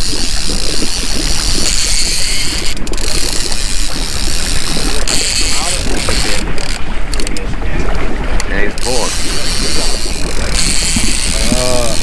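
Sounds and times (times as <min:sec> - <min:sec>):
fishing reel clicking: 0:00.0 - 0:07.4, 0:08.7 - 0:12.0
boat motor humming: 0:00.0 - 0:12.0.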